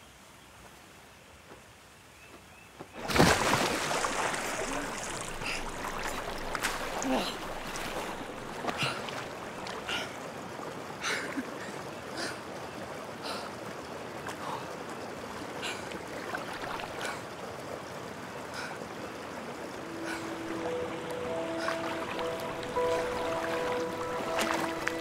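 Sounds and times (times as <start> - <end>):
swimmer splashing: 3.0 - 12.4, 13.2 - 25.0
moving water washing: 3.0 - 25.0.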